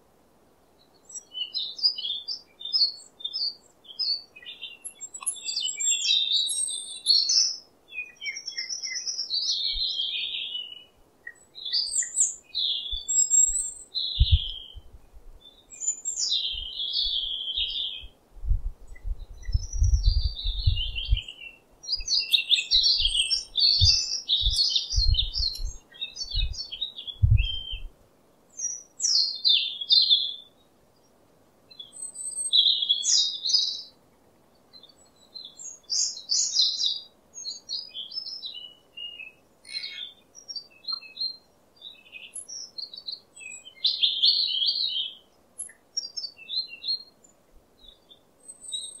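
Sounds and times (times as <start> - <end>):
small birds chirping and singing: 0.6 - 49.0.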